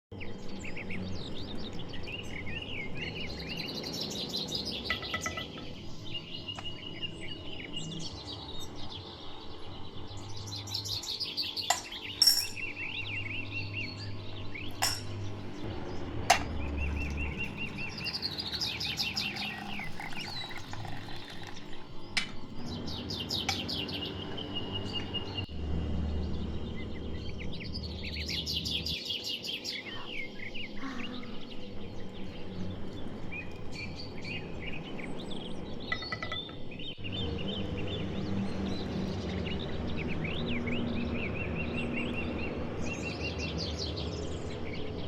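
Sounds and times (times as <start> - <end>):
birds chirping and trilling: 0.1 - 45.0.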